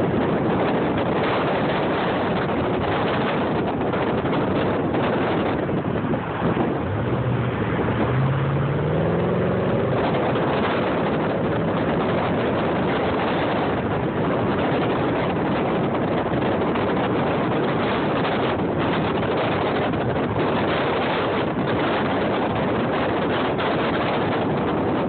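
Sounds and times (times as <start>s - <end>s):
car road and wind noise: 0.0s - 25.0s
engine speeding up: 0.2s - 25.0s.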